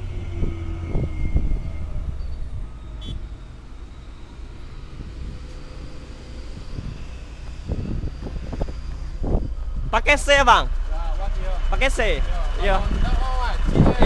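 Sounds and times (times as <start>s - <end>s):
heavy truck engine rumbling: 0.0s - 14.0s.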